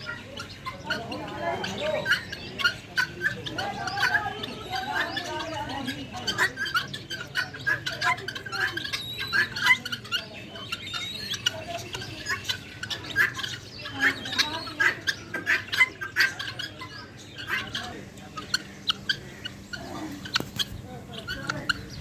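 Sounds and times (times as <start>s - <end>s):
guinea fowl squawking: 0.0s - 22.0s.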